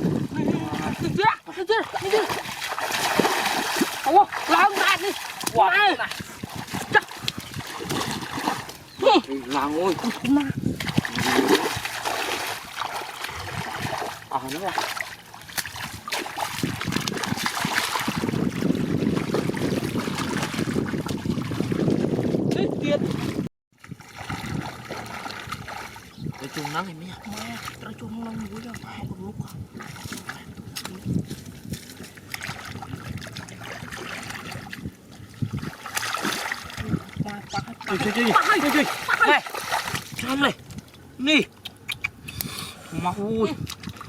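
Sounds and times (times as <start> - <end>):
wind on the microphone: 0.0 - 14.6, 15.5 - 41.2, 41.9 - 44.0
water splashing and sloshing: 0.0 - 44.0.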